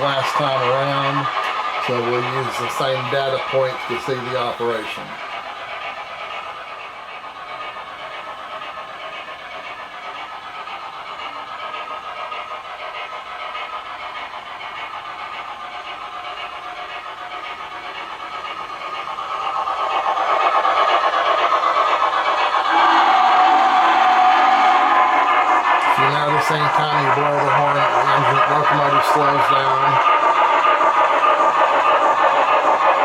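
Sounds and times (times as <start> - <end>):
model train steam chuffing: 0.0 - 33.0.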